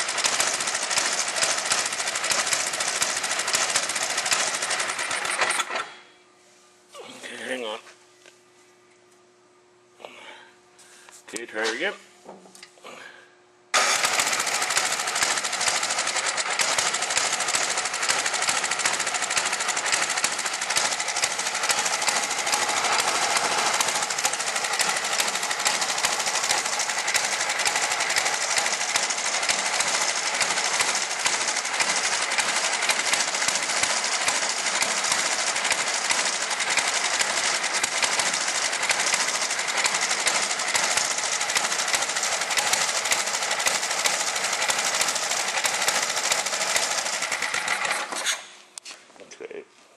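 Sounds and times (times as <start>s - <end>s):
snowblower engine clattering: 0.0s - 6.0s, 13.8s - 48.4s.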